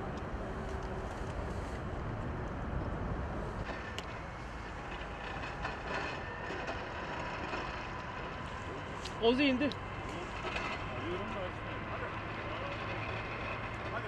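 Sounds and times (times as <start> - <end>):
jet aircraft rumble: 0.0 - 14.0.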